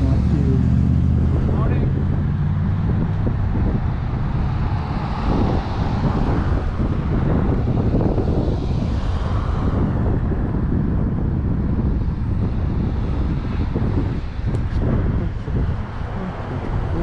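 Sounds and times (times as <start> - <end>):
road traffic rumble: 0.0 - 17.0
wind buffeting microphone: 0.0 - 17.0.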